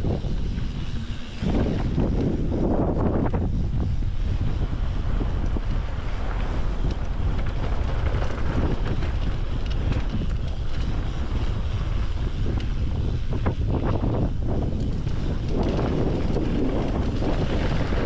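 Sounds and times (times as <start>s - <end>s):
bike ticks and rattles: 0.0s - 18.0s
wind buffeting microphone: 0.0s - 18.0s.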